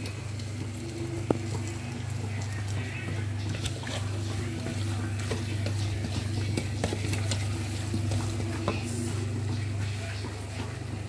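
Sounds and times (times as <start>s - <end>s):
steady low hum: 0.0s - 11.0s
spoon scraping a pot: 1.8s - 10.7s.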